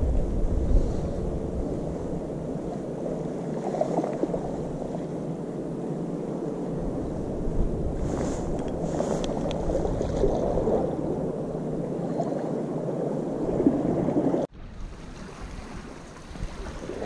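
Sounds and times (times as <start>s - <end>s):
sea waves against rocks: 0.0s - 5.3s, 7.9s - 17.0s
wind on microphone: 0.0s - 17.0s.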